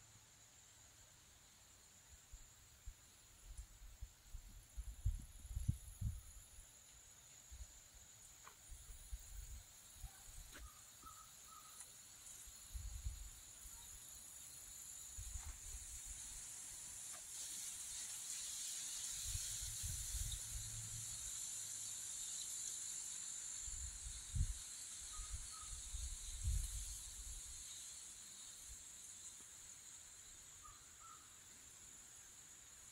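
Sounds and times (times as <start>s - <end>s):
high-pitched insect chorus: 0.0s - 32.9s.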